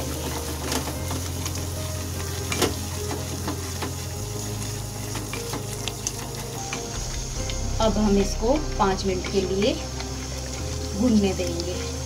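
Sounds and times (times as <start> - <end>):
light sizzle in a pan: 0.0 - 12.0.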